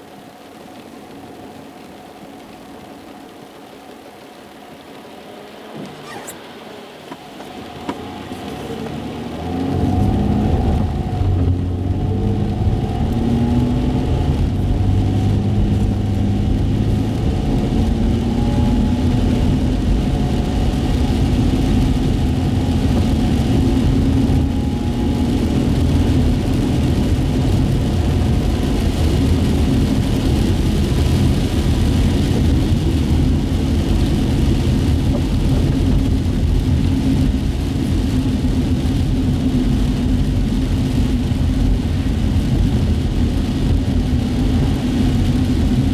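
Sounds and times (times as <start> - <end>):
car engine rumble inside cabin: 0.0 - 45.9
tyres hissing on wet road: 0.0 - 45.9.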